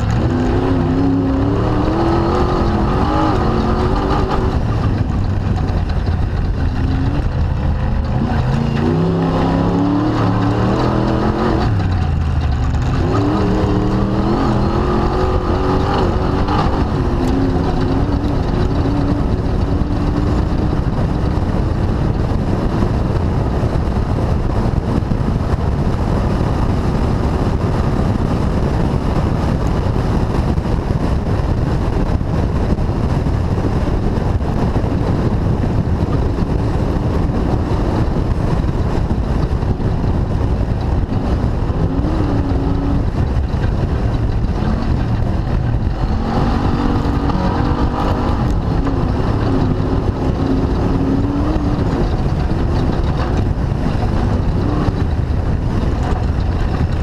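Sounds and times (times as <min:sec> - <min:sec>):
race car engine revving: 0:00.0 - 0:32.0, 0:32.6 - 0:57.0.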